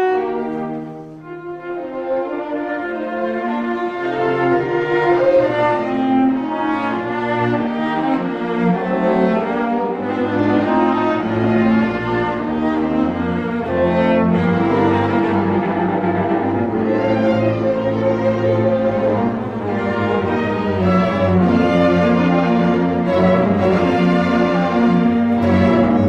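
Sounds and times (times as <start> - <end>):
chamber orchestra strings: 0.0 - 26.0.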